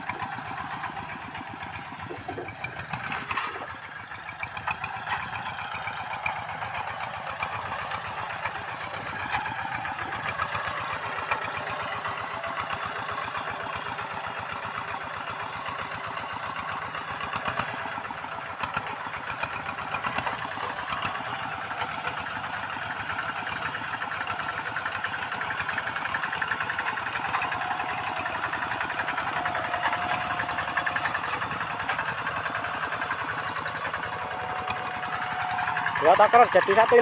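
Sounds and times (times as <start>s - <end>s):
diesel engines running: 0.0s - 37.0s.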